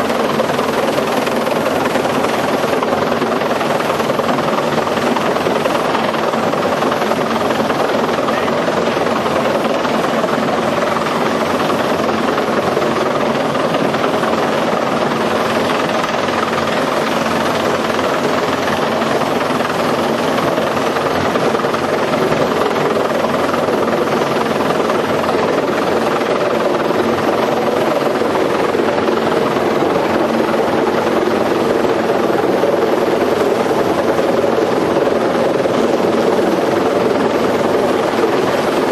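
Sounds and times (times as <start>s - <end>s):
helicopter turbine and rotor drone: 0.0s - 38.9s.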